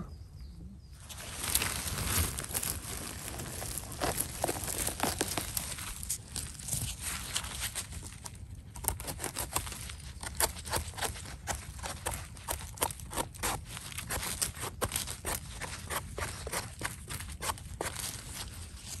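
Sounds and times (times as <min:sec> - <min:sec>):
knife scraping mushroom stem: 0:02.2 - 0:19.0.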